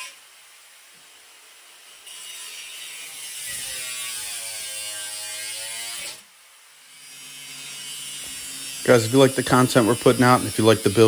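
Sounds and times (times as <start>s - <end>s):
angle grinder cutting steel: 1.9s - 11.0s.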